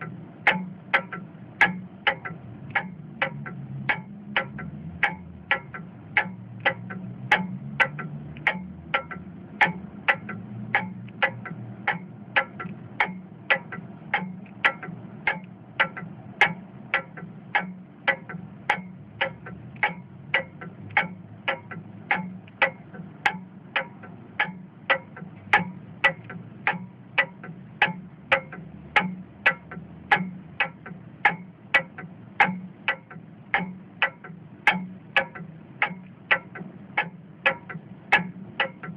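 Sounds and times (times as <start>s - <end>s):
low steady hum: 0.0s - 38.9s
steady ticking: 0.0s - 38.9s.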